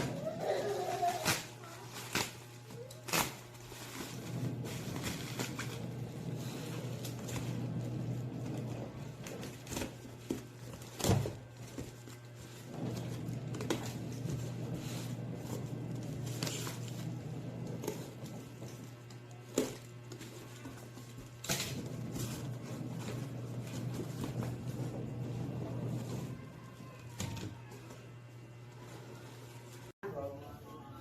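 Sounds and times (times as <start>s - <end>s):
packaging crinkling and knocking: 0.0s - 27.9s.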